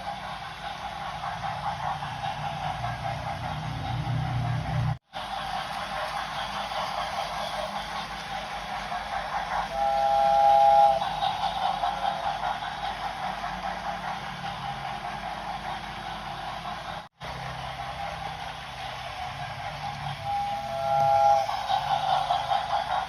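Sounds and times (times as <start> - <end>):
steam locomotive running: 0.0 - 23.0.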